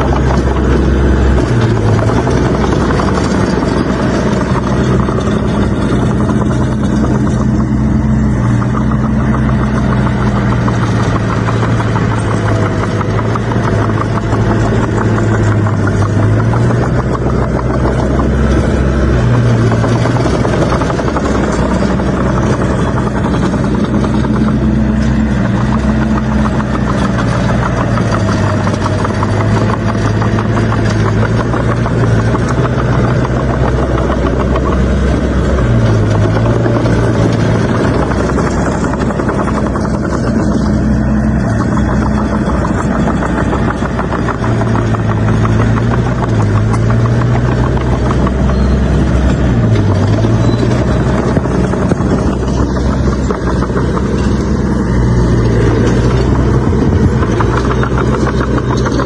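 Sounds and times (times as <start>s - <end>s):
diesel engine working under load: 0.0s - 59.0s.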